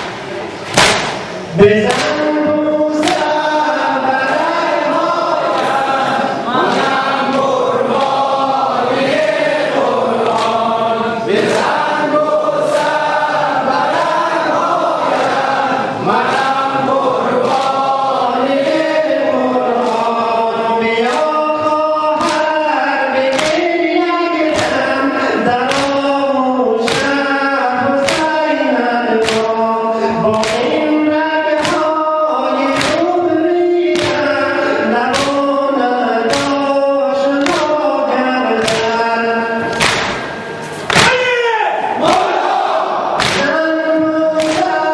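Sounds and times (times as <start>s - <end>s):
rhythmic chest slaps: 0.0s - 41.4s, 42.0s - 44.9s
men chanting a lament: 1.5s - 44.9s.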